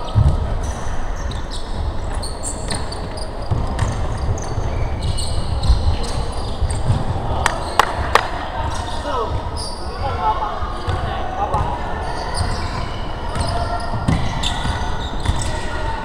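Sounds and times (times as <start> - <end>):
sneakers squeaking on floor: 0.0 - 8.0, 8.6 - 16.0.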